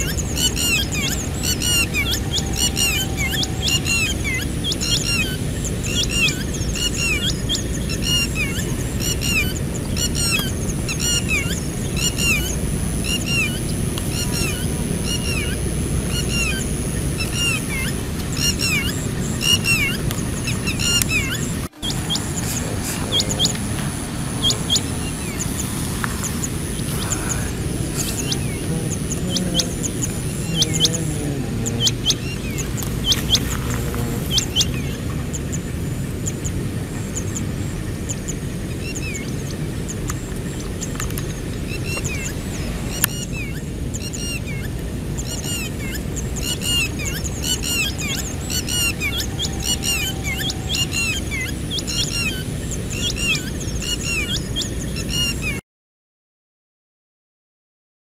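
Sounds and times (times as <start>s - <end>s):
low outdoor rumble: 0.0s - 55.6s
small birds chirping: 0.0s - 55.6s.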